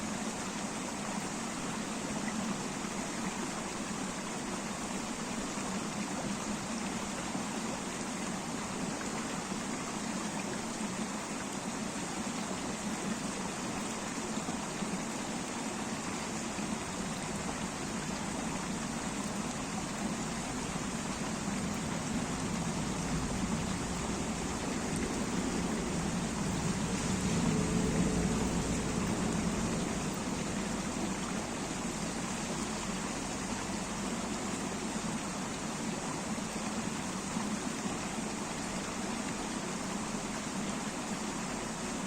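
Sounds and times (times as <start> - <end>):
river water flowing over stones: 0.0 - 42.0.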